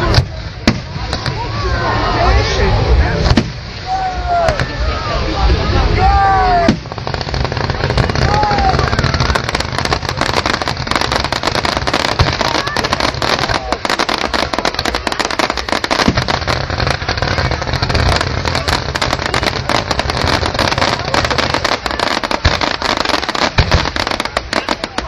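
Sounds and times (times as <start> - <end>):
fireworks cracks and bangs: 0.0 - 25.0.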